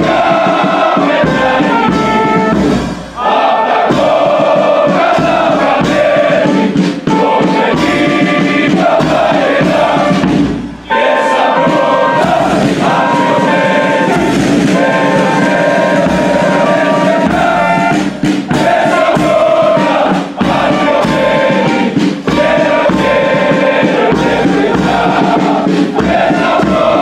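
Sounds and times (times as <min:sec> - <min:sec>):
military brass band playing: 0:00.0 - 0:27.0.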